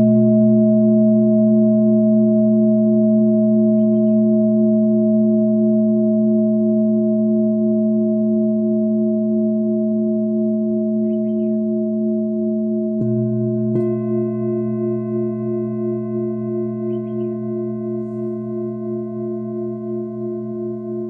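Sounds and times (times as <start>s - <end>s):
singing bowl ringing: 0.0s - 21.0s.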